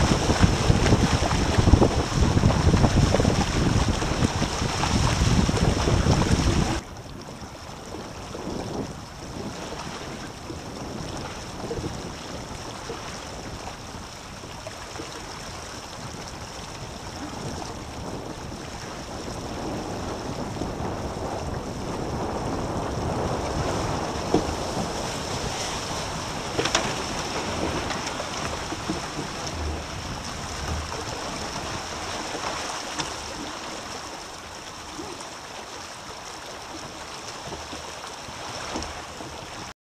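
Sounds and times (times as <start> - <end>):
wind buffeting microphone: 0.0 - 35.2
water rushing along hulls: 0.0 - 39.8.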